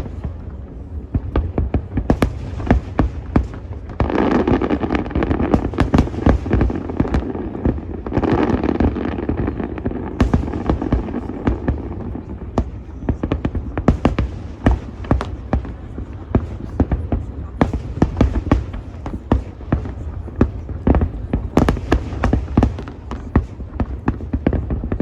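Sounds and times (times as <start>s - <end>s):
dense fireworks crackling: 0.0s - 25.0s
fireworks bangs and booms: 0.0s - 25.0s.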